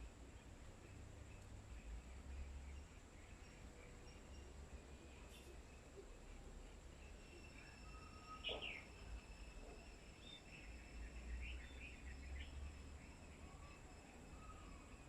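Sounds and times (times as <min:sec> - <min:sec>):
faint bird chirps: 0:00.2 - 0:15.0.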